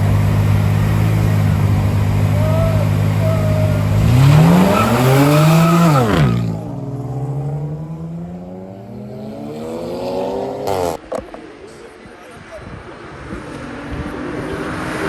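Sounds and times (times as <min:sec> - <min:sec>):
car engine revving and accelerating: 0:00.0 - 0:11.1, 0:13.0 - 0:15.0.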